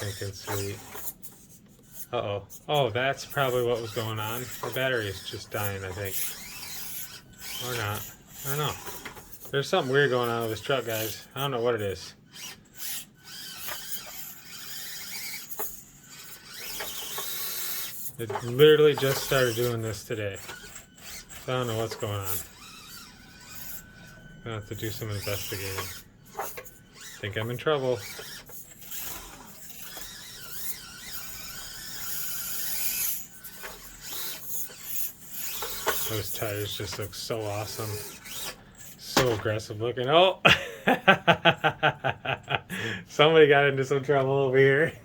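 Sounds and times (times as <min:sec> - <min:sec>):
small electric motor and gears whining: 0:00.0 - 0:45.0.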